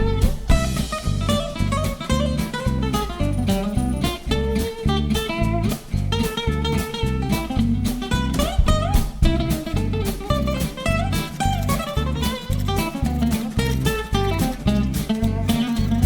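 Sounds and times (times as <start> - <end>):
plucked guitar: 0.0 - 16.0
steady drum beat: 0.0 - 16.0.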